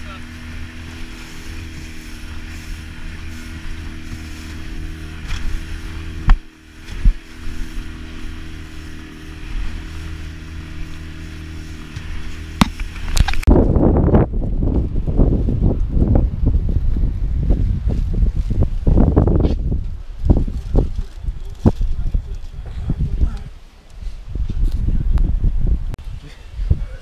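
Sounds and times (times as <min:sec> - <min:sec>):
outboard motor droning: 0:00.0 - 0:27.0
wind buffeting microphone: 0:00.0 - 0:27.0.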